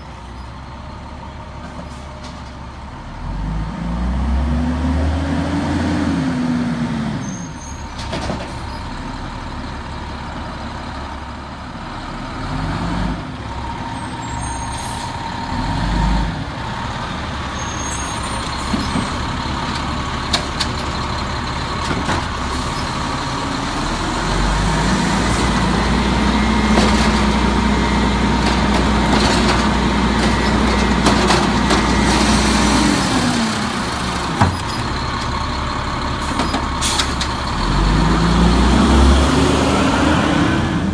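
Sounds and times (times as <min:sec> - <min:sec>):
garbage truck diesel engine revving: 0:03.0 - 0:07.2, 0:11.8 - 0:40.9.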